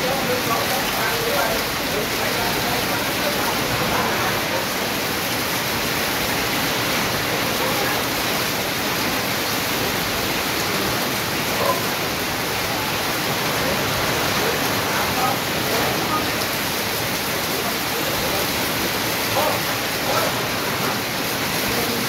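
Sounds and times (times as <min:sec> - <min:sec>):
rain on metal roof: 0:00.0 - 0:22.0
water pouring onto ground: 0:00.0 - 0:22.0.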